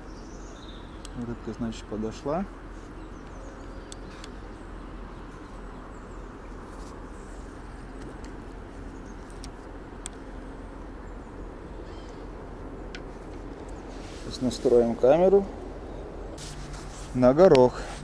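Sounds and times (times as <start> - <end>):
low hum: 0.0 - 17.1.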